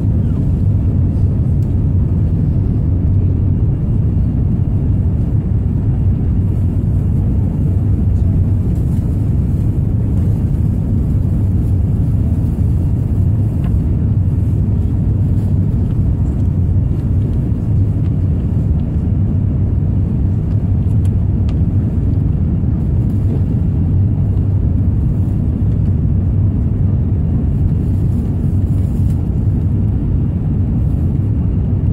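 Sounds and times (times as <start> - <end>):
jet engines rumbling: 0.0 - 31.9
rushing air: 0.0 - 31.9.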